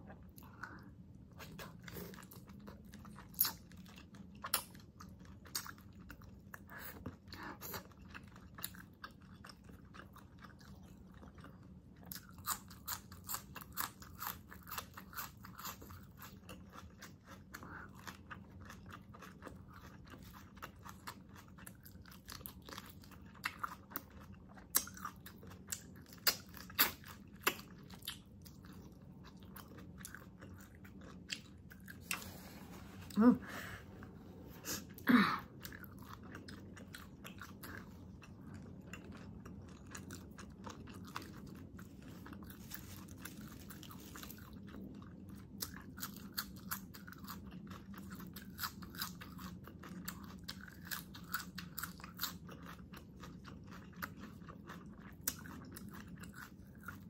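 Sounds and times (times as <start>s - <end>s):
close chewing and biting: 0.0s - 33.1s, 33.9s - 57.0s.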